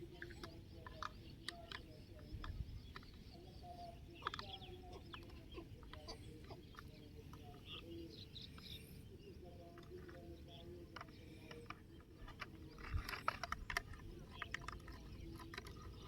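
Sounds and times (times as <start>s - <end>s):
plastic toys clicking and knocking: 0.0s - 7.8s, 9.6s - 16.0s.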